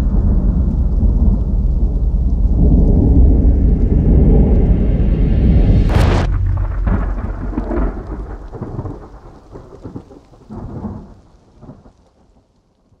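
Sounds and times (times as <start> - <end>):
crackling rain-like patter: 0.0 - 4.9, 5.9 - 13.0
deep rumble: 0.0 - 11.1.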